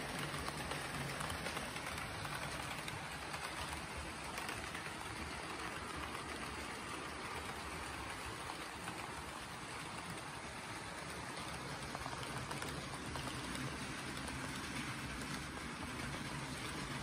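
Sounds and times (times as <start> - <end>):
model train wheels rumbling: 0.0 - 17.0.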